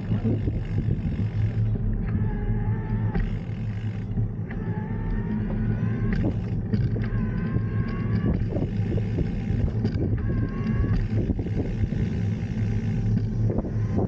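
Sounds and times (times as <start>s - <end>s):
bicycle tyres rolling on road: 0.0s - 14.0s
wind buffeting microphone: 0.0s - 14.0s.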